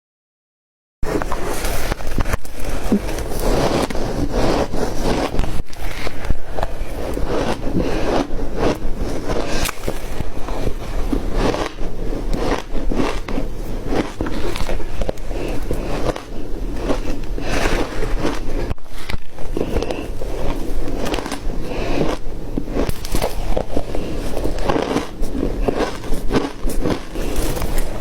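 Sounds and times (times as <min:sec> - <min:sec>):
ice being chewed crunching: 0:01.1 - 0:28.0.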